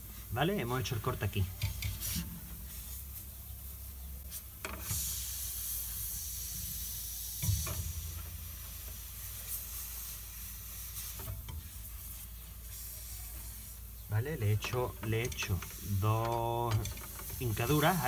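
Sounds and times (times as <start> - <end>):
gas hissing from pipe: 0.0 - 18.0.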